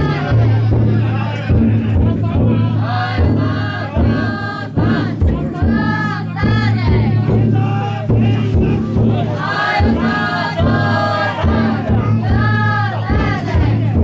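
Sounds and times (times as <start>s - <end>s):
group of voices chanting: 0.0s - 14.0s
large taiko drum beats: 0.0s - 14.0s.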